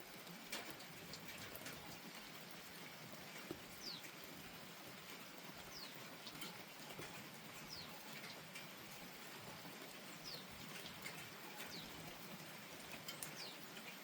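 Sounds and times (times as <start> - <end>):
light rain: 0.0 - 14.0
water drips: 0.0 - 14.0.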